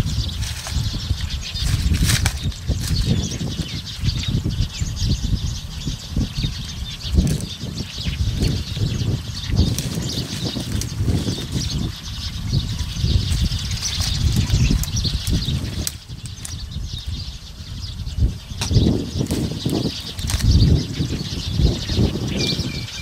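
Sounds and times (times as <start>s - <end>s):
dry leaves and twigs rustling: 0.0s - 23.0s
wind buffeting microphone: 0.0s - 23.0s.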